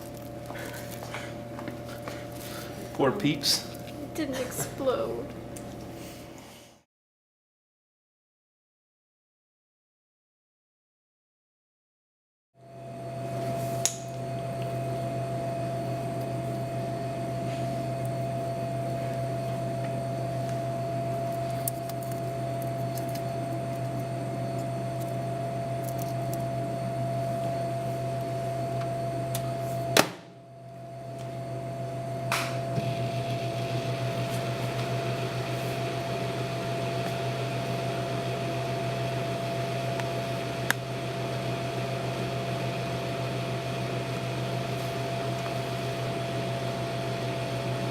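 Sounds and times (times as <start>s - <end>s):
microwave oven humming: 0.0s - 6.8s, 12.6s - 47.9s.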